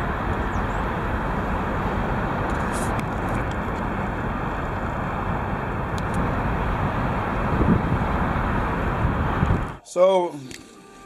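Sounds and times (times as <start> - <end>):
car road and engine rumble: 0.0 - 9.8.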